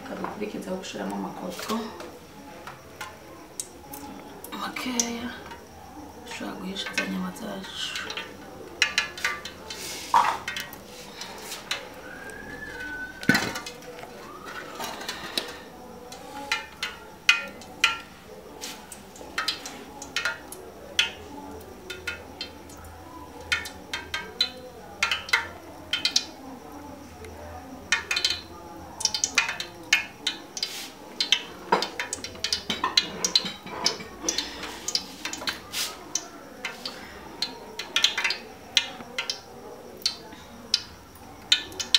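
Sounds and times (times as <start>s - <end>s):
hot oil crackling and popping: 0.0s - 41.9s.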